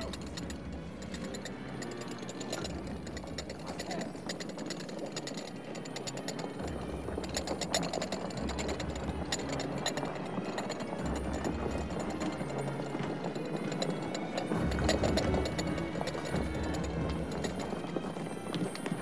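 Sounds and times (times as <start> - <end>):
boots marching on stone: 0.0 - 19.0.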